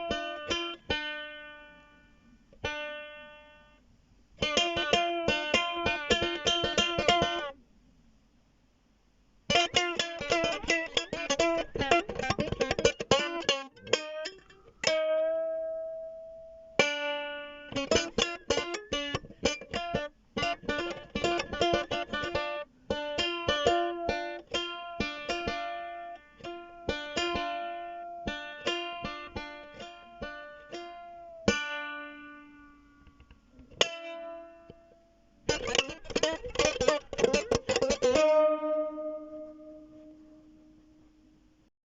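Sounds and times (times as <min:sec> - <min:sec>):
plucked string instrument: 0:00.0 - 0:03.8, 0:04.4 - 0:07.6, 0:09.5 - 0:41.4.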